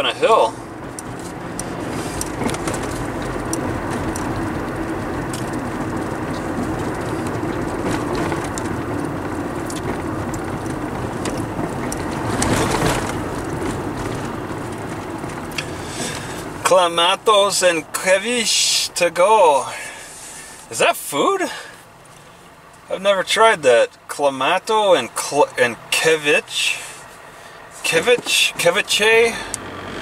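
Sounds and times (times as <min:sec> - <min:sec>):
car engine: 0:00.0 - 0:30.0
road noise: 0:00.0 - 0:30.0.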